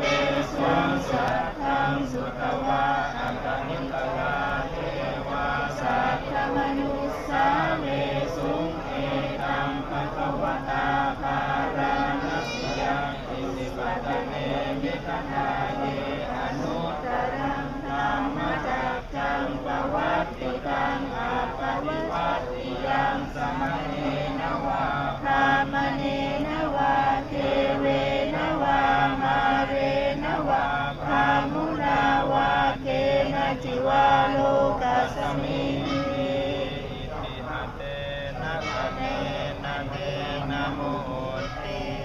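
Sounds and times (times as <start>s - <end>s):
voices chanting rhythmically: 0.0s - 42.0s.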